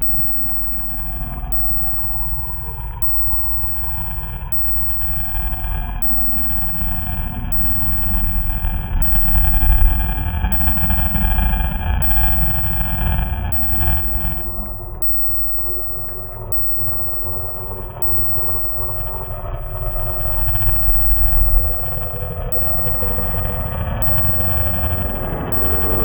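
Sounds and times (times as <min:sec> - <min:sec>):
deep rumbling drone: 0:00.0 - 0:26.0
eerie high tones: 0:00.0 - 0:26.0.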